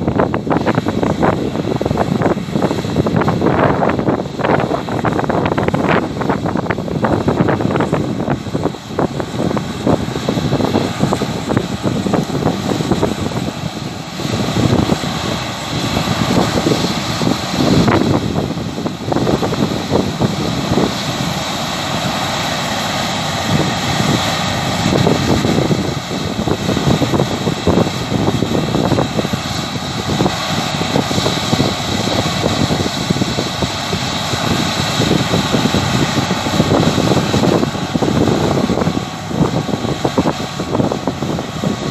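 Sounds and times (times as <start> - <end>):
combine harvester droning: 0.0 - 41.9
high whine: 0.0 - 41.9.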